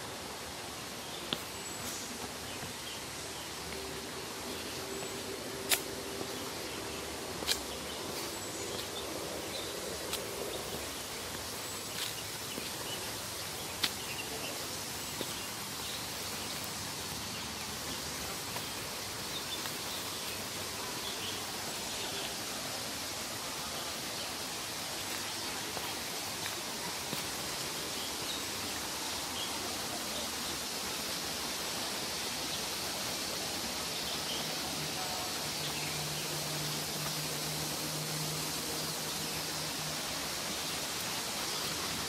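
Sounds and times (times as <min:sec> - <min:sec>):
outdoor ambience hiss: 0:00.0 - 0:42.0.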